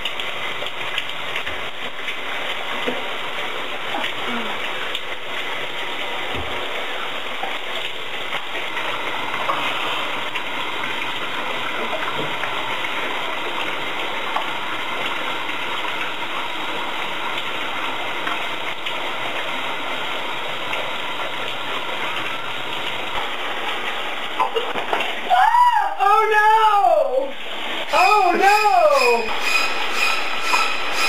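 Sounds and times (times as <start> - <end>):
shower water running: 0.0 - 31.0.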